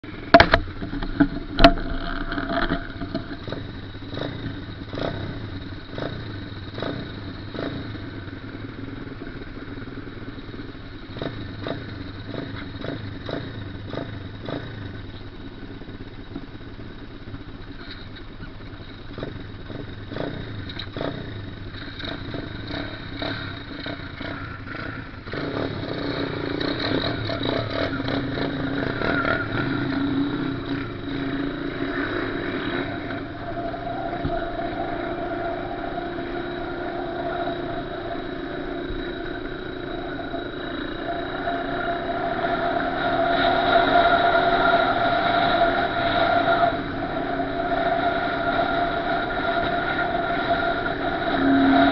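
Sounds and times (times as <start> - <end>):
small off-road engine running: 0.0 - 51.9.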